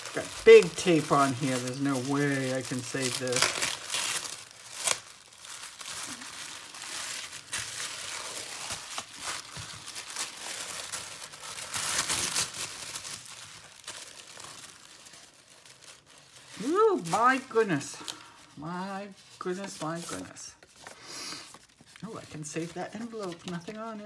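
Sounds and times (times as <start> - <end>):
tissue paper crinkling: 0.0 - 24.0.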